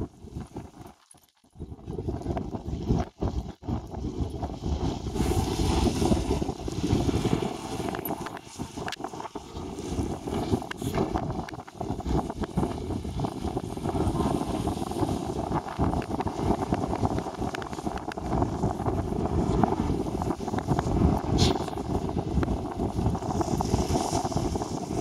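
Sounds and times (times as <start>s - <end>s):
wind buffeting microphone: 1.5s - 25.0s.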